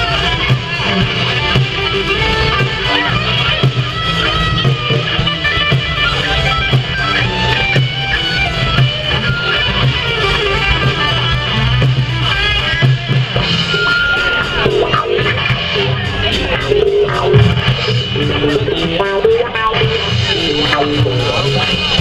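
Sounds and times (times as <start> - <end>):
drum kit: 0.0 - 22.0
electric guitar: 0.0 - 22.0.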